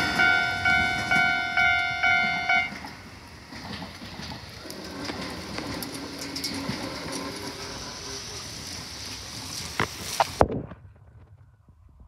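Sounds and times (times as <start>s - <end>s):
electric train passing: 0.0s - 10.4s.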